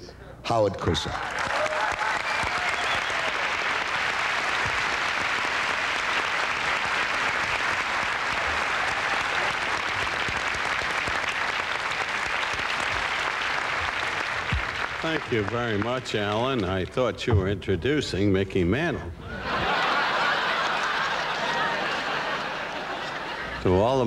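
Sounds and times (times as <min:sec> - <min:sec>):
audience applauding: 0:01.0 - 0:16.7, 0:19.5 - 0:23.9.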